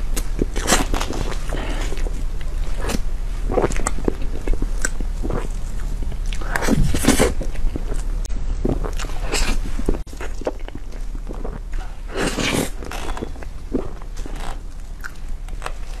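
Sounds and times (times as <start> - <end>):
close eating mouth noises: 0.0 - 16.0
low steady hum: 0.0 - 16.0.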